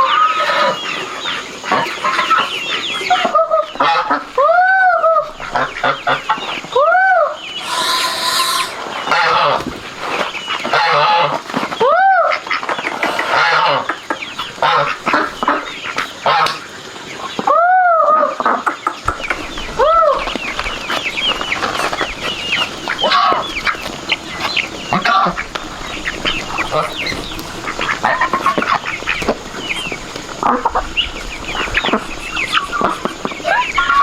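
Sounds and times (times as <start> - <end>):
chickens clucking: 0.0 - 34.0
chicken squawking: 1.6 - 9.7, 10.5 - 16.5, 17.5 - 34.0.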